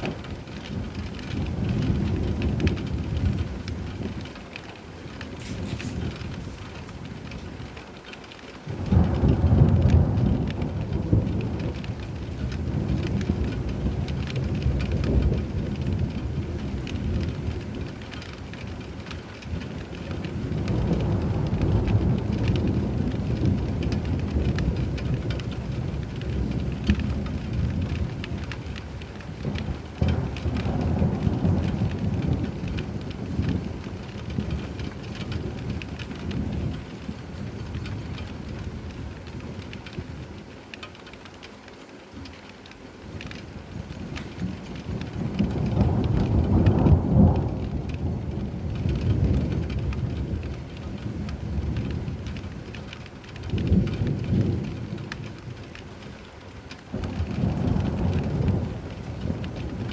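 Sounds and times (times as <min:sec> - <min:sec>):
steady rain falling: 0:00.0 - 0:59.9
thunder rumbling: 0:00.0 - 0:59.9.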